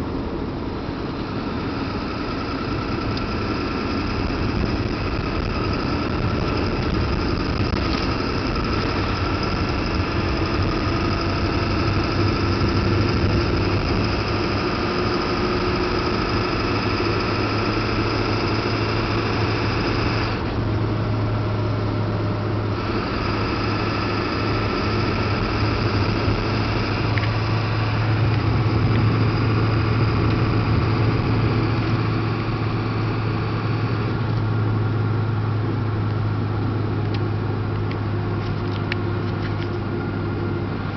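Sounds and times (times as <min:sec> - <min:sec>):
diesel truck engine droning: 0:00.0 - 0:40.9
high engine whine: 0:00.0 - 0:40.9.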